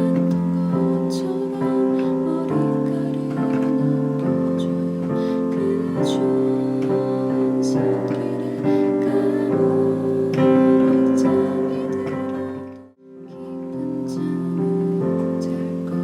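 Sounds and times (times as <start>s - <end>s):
slow held instrumental chords: 0.0s - 16.0s.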